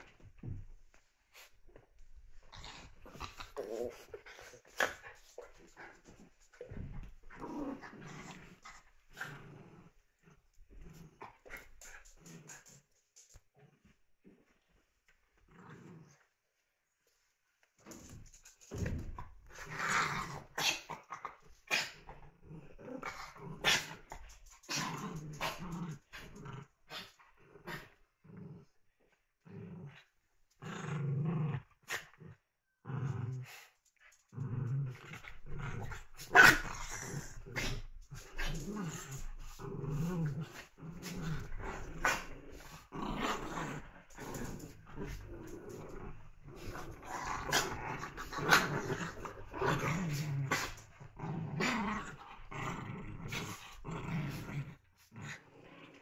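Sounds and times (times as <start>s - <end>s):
puppies play-growling: 0.0s - 16.4s, 17.7s - 56.0s.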